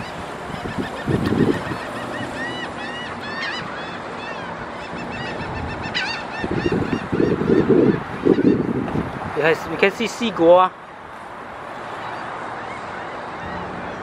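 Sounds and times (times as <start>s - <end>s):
gulls calling: 0.0s - 14.0s.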